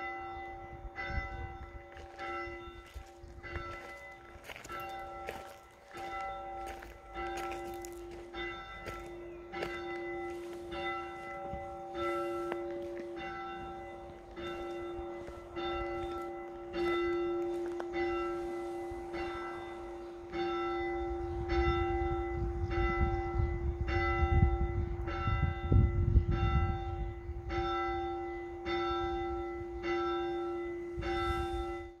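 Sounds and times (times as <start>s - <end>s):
church bell tolling: 0.0s - 32.0s.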